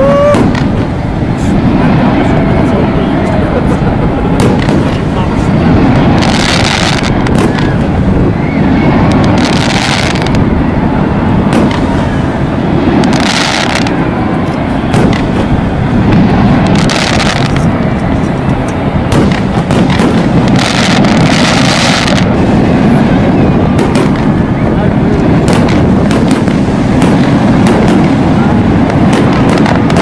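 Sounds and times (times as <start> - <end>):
fireworks bursts with crackling: 0.0 - 30.0
loud rumble: 0.0 - 30.0.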